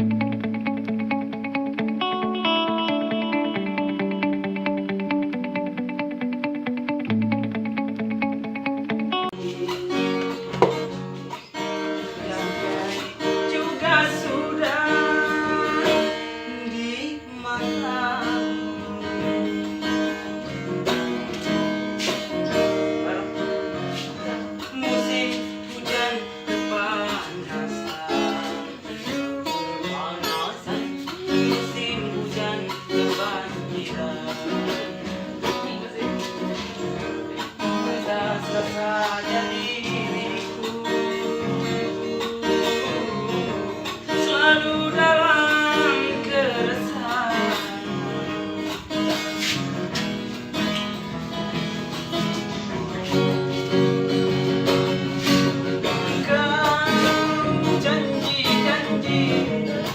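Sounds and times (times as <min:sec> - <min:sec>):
acoustic guitar strumming: 0:00.0 - 0:59.9
person singing: 0:00.0 - 0:59.9.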